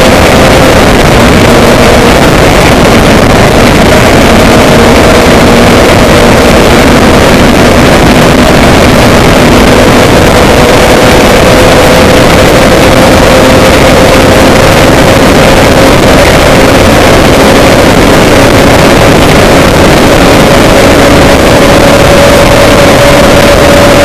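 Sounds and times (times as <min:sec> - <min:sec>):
loud rushing noise: 0:00.0 - 0:24.0
low engine drone: 0:00.0 - 0:24.0.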